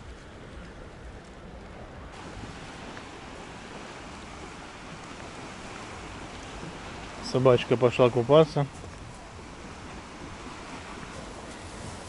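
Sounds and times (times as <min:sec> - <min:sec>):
low wind rumble: 0:00.0 - 0:12.0
small waves hissing: 0:00.0 - 0:12.0.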